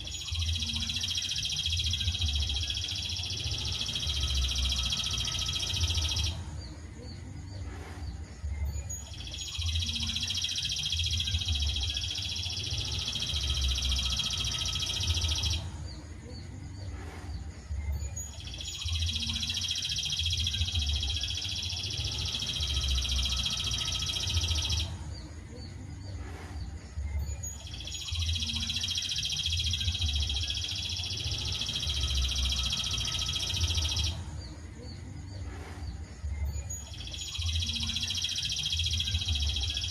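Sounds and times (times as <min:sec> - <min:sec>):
high continuous bird song: 0:00.0 - 0:39.9.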